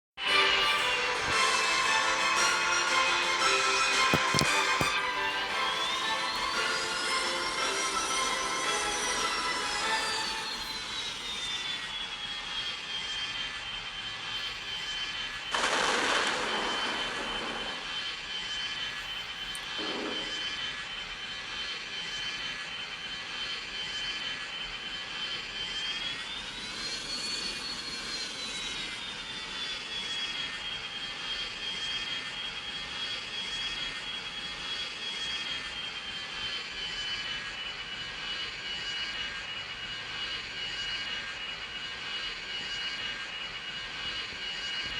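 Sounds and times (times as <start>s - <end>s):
jet engine high whine: 0.2s - 44.9s.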